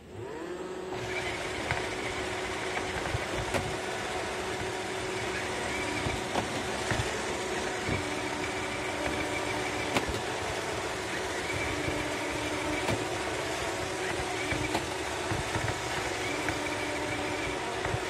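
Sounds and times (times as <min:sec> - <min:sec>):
robot vacuum whirring: 0:00.0 - 0:18.0.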